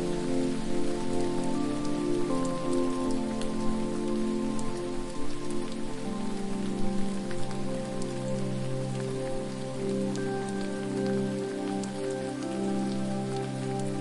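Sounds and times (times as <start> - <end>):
falling water hiss: 0.0 - 14.0
soft ambient music: 0.0 - 14.0
water drip ticks: 0.0 - 14.0.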